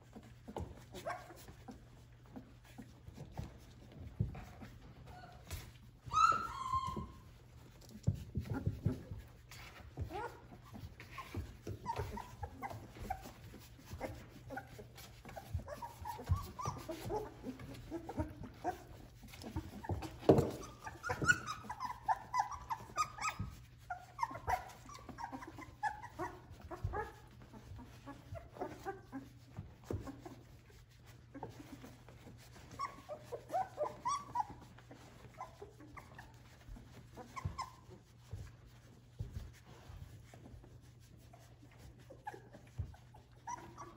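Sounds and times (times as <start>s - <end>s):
puppies squeaking and whimpering: 0.0s - 43.9s.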